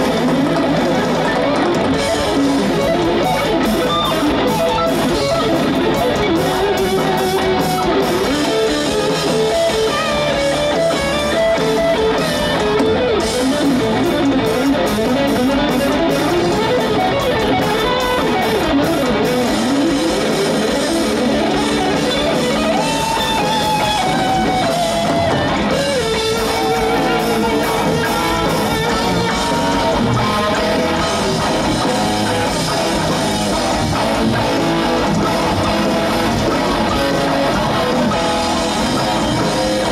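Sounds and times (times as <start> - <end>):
heavy metal band playing: 0.0 - 39.9
lead electric guitar melody: 0.0 - 39.9.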